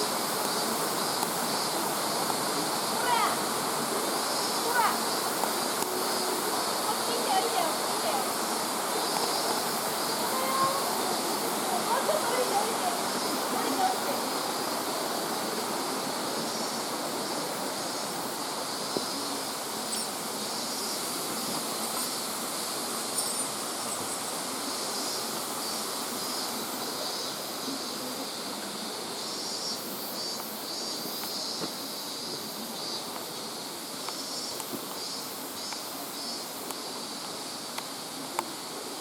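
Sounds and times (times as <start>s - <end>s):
stream water rushing: 0.0s - 29.6s, 31.3s - 39.0s.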